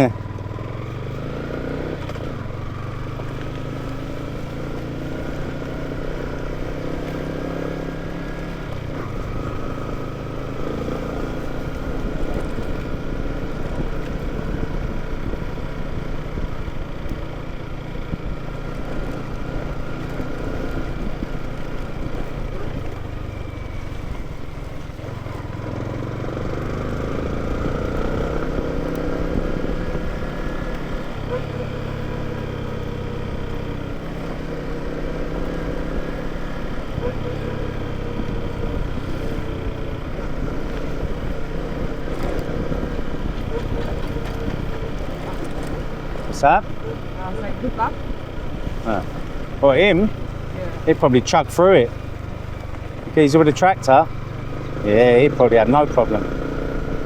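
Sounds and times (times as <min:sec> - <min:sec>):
small motorcycle engine running: 0:00.0 - 0:57.0.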